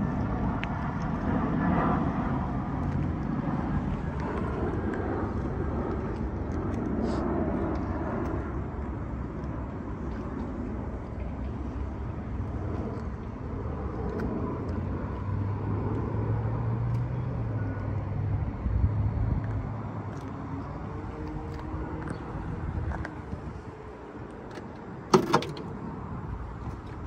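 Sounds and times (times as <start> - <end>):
traffic rumble: 0.0 - 27.0
vehicle engine hum: 0.0 - 27.0.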